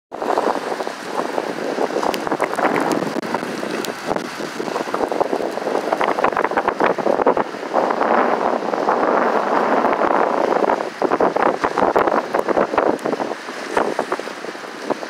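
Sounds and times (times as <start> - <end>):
wind buffeting microphone: 0.1 - 15.0
waves splashing: 0.2 - 15.0.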